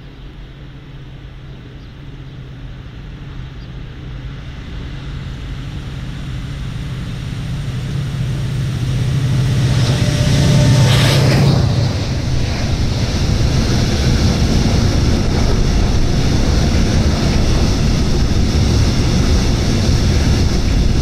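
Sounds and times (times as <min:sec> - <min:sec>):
locomotive low hum: 0:00.0 - 0:21.0.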